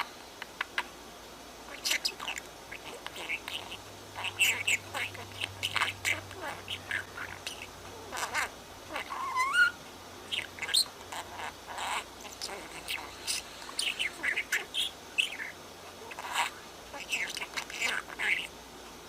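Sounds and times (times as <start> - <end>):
budgerigar chattering: 1.7 - 18.6.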